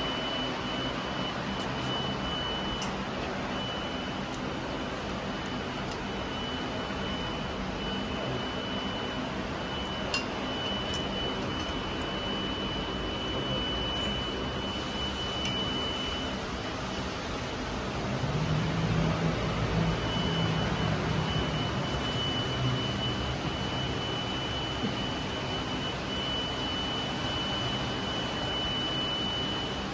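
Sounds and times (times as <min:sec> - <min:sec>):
low machine hum: 0:00.0 - 0:29.9
thin high machine whine: 0:00.0 - 0:29.9.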